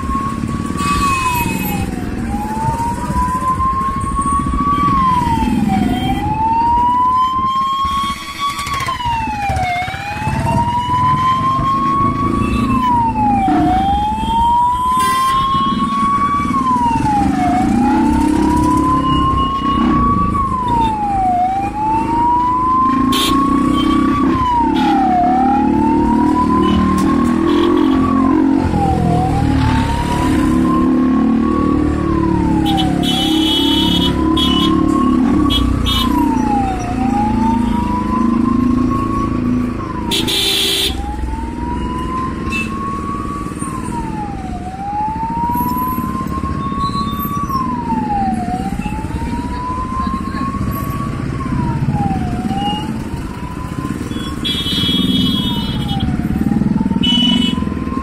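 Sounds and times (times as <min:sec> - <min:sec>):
emergency siren wailing: 0:00.0 - 0:58.0
engine and road noise: 0:00.0 - 0:58.0.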